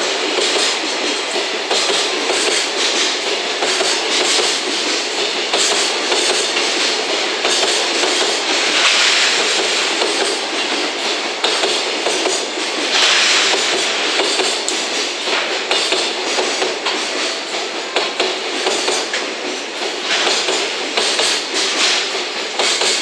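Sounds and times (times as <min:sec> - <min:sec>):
freight train rolling past: 0:00.0 - 0:23.0
wheels clacking over rail joints: 0:00.0 - 0:23.0.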